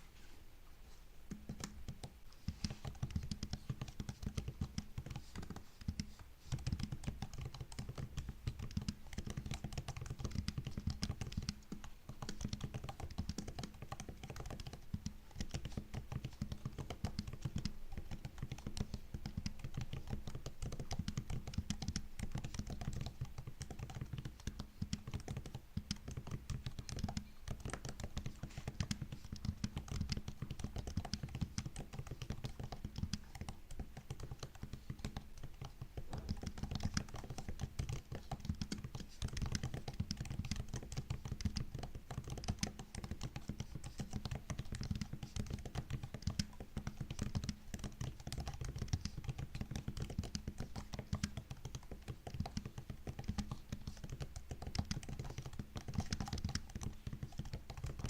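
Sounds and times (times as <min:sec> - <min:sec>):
typing on laptop keyboard: 0:01.3 - 0:58.0.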